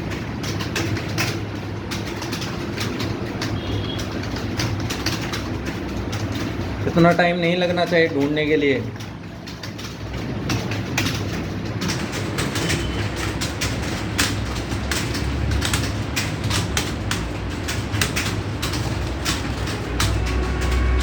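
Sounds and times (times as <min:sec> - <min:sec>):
computer keyboards clattering: 0:00.0 - 0:21.0.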